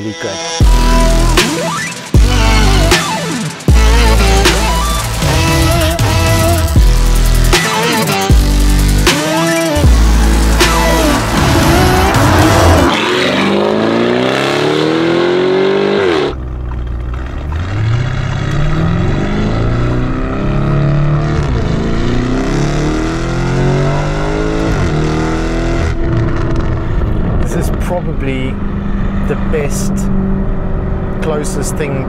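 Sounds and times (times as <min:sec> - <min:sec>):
car engine accelerating hard: 0:00.6 - 0:32.0.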